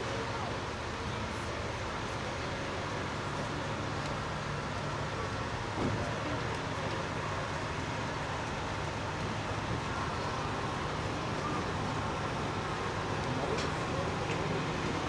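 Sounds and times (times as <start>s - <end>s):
miniature train running hum: 0.0s - 15.0s.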